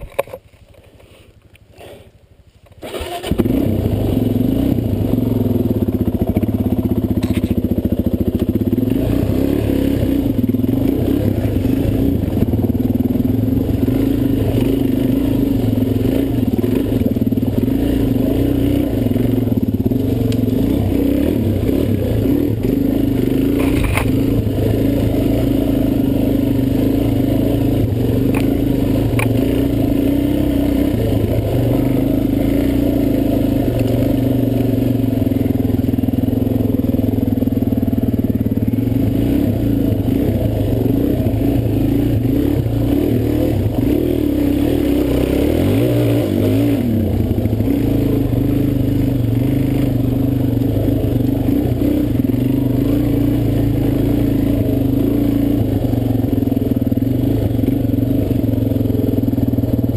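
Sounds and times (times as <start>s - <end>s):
dirt bike engine: 0.0s - 59.9s.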